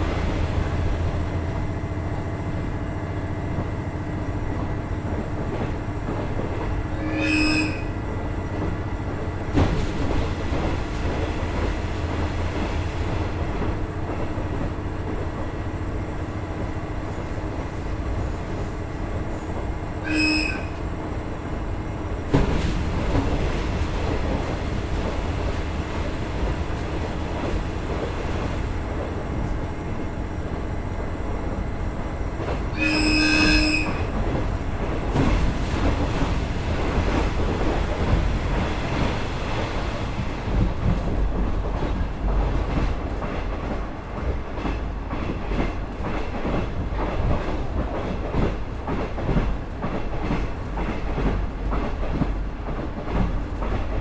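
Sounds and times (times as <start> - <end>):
diesel railcar engine and wheels rumbling: 0.0 - 54.0.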